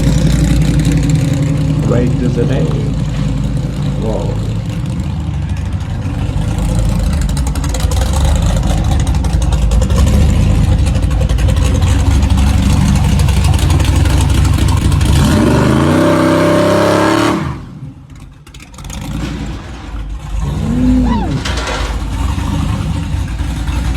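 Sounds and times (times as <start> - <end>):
drag car engine revving: 0.0 - 23.9.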